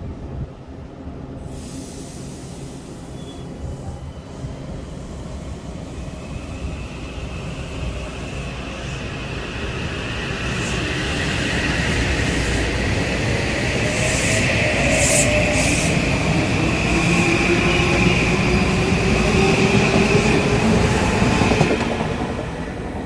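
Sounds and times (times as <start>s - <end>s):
passenger train on rails: 0.0s - 23.0s.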